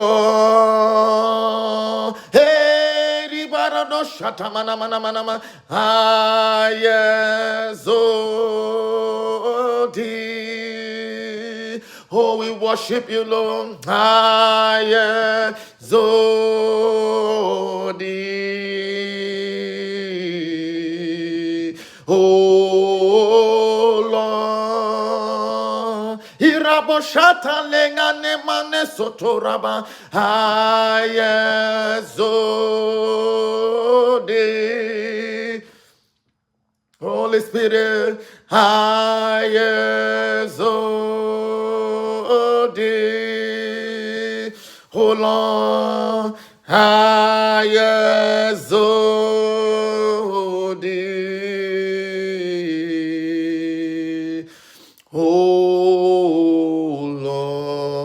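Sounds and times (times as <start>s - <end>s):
man singing a chant: 0.0s - 36.0s, 37.0s - 58.0s.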